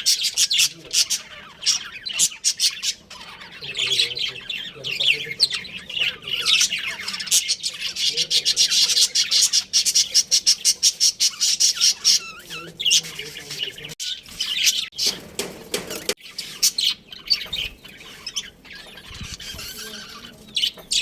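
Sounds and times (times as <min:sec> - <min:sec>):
budgerigars chirping and chattering: 0:00.0 - 0:21.0.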